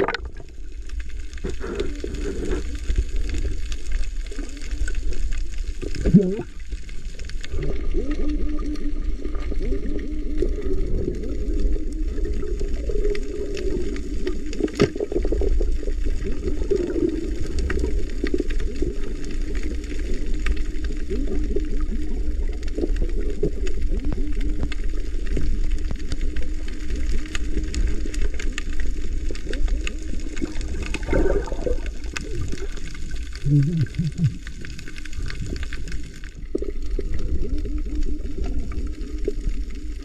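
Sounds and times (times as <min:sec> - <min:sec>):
faint underwater clicks and crackles: 0:00.0 - 0:40.0
underwater rumble of moving water: 0:00.0 - 0:40.0.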